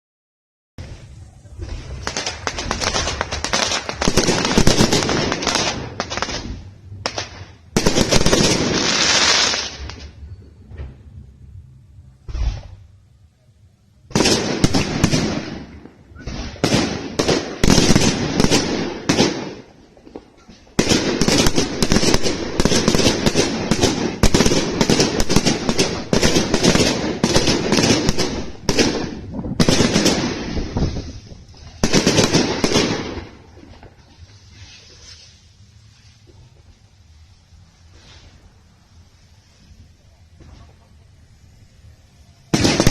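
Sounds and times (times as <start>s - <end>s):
fireworks bangs and crackles: 0.8s - 11.1s, 14.0s - 42.9s.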